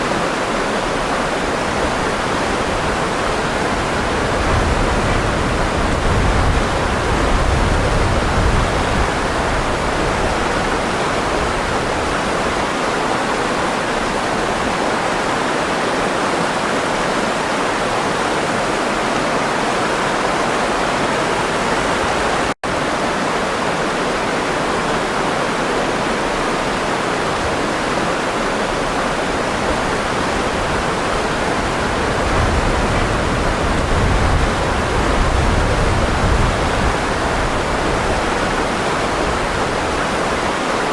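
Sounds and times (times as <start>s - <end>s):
deep water rumble: 0.0s - 22.6s, 27.3s - 40.9s
water rushing: 0.0s - 40.9s.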